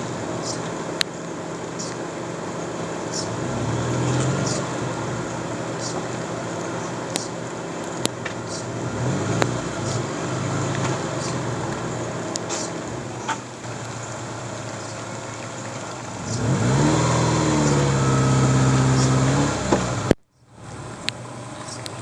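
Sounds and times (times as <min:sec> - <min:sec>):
car engine straining under load: 0:00.0 - 0:22.0
quiet engine rumble with ticks: 0:00.0 - 0:22.0.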